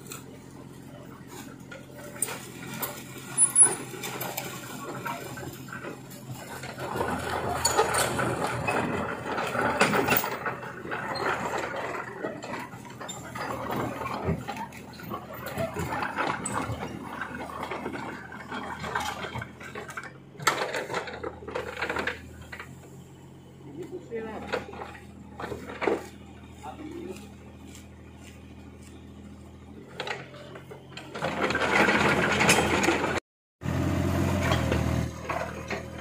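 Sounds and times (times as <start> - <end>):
excavator diesel engine running: 0.0 - 36.0
bucket scraping car along ground: 1.2 - 23.4, 24.0 - 33.2.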